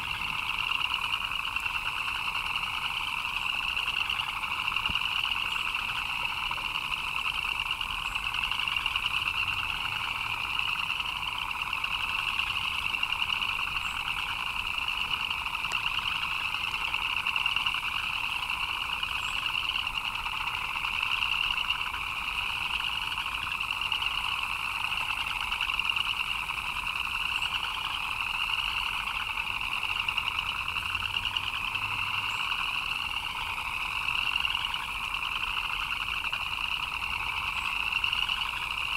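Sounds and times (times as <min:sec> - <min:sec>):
frogs chorus trilling: 0:00.0 - 0:38.9.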